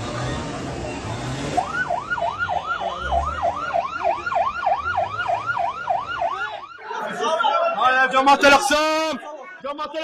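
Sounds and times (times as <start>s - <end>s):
crowd noise: 0.0s - 10.0s
siren yelping: 0.3s - 9.7s.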